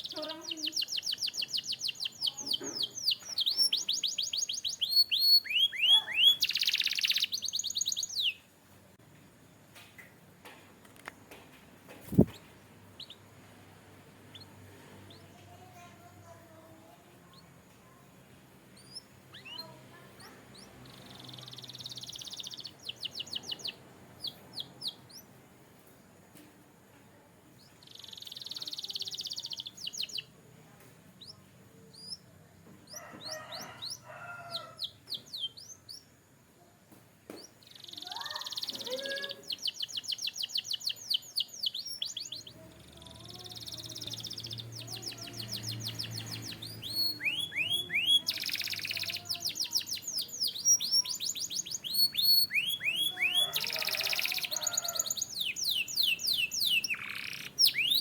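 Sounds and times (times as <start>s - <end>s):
canary singing: 0.0s - 8.5s, 12.0s - 18.0s, 18.6s - 25.4s, 27.6s - 30.4s, 31.2s - 36.3s, 37.3s - 58.0s.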